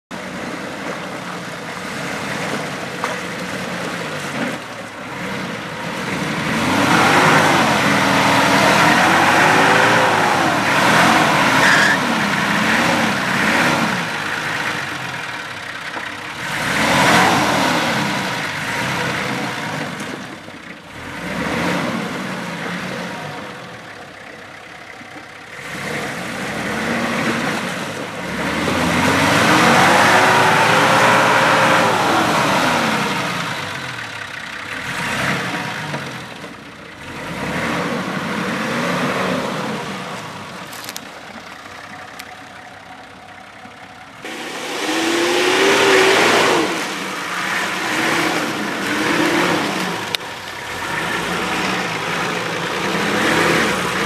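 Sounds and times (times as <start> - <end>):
diesel engine revving: 0.1 - 54.0.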